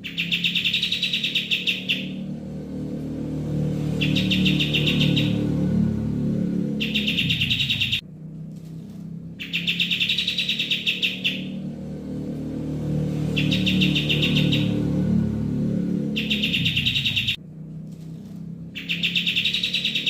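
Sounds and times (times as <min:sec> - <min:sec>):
songbird pulsing trills: 0:00.0 - 0:02.4, 0:03.6 - 0:08.0, 0:08.6 - 0:11.7, 0:13.0 - 0:18.1, 0:18.7 - 0:20.0.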